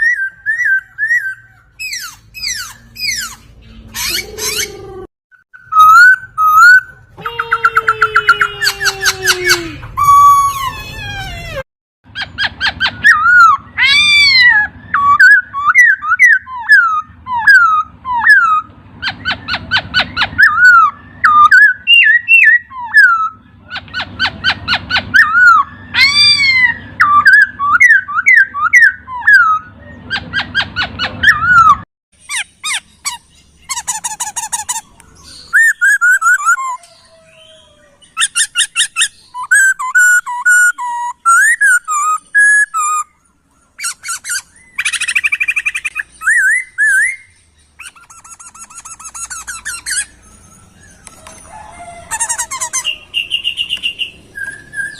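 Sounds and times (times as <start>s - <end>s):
bird singing: 0.0s - 54.9s.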